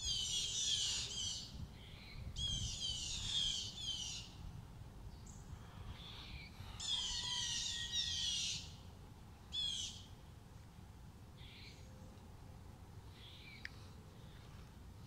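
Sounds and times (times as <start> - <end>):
songbird singing: 0.0 - 10.4, 11.3 - 12.3, 13.0 - 14.6.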